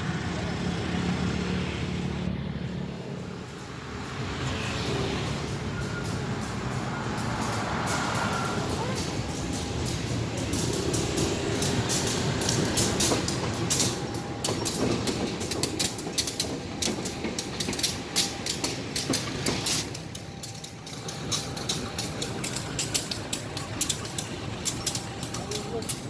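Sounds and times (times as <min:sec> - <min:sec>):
diesel locomotive rumble: 0:00.0 - 0:26.0.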